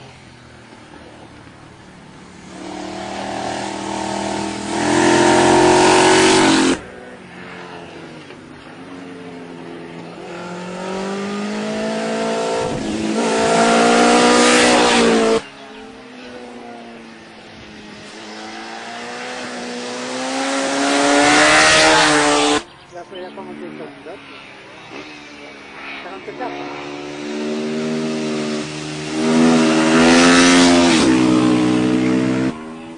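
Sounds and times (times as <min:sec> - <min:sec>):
motorcycle engines accelerating hard: 0:00.0 - 0:32.9.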